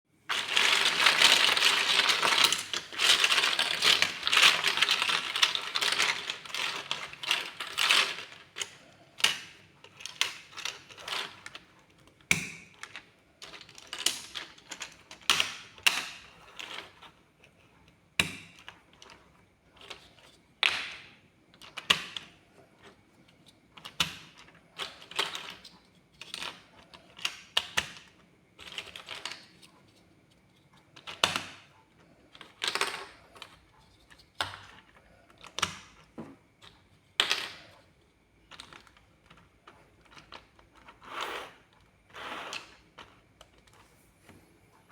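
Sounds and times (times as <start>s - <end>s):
plastic blocks clattering: 0.3s - 23.0s, 23.7s - 30.0s, 30.9s - 31.7s, 32.3s - 37.8s, 38.5s - 41.8s
plastic blocks clicking together: 0.3s - 23.0s, 23.7s - 30.0s, 30.8s - 31.7s, 32.3s - 37.8s, 38.5s - 41.7s.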